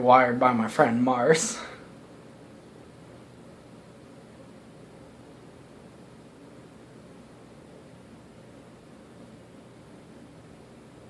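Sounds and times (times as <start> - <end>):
ceiling fan air rush: 0.0 - 11.0.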